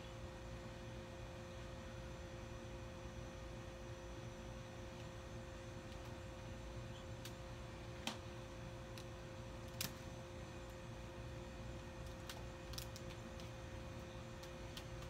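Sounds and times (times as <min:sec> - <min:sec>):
quiet hum with held tones: 0:00.0 - 0:15.0.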